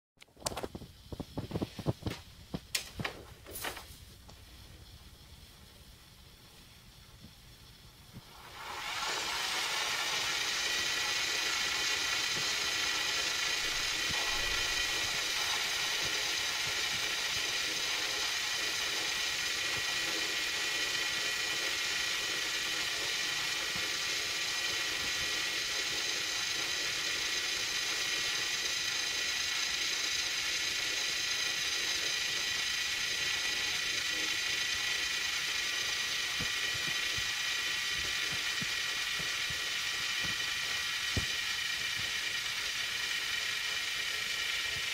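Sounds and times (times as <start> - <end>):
videocassette winding mechanical whir: 0.4 - 44.9.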